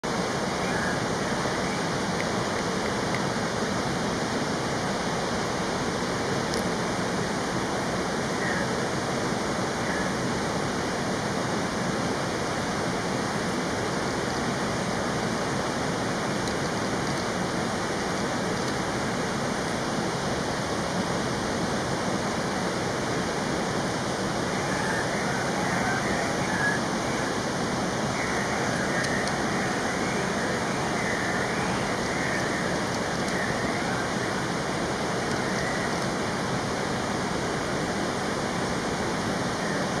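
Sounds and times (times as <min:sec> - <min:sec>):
rushing stream or waterfall: 0:00.0 - 0:40.0.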